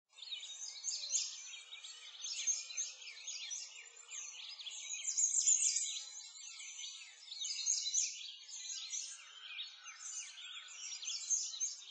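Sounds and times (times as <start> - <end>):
songbirds chirping and trilling: 0.1 - 11.9.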